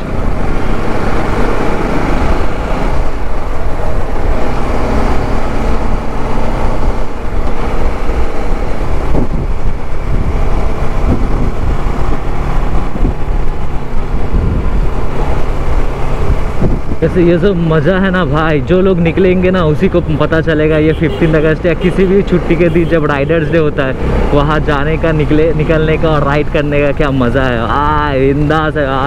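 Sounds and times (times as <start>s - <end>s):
road and wind rush: 0.0s - 29.0s.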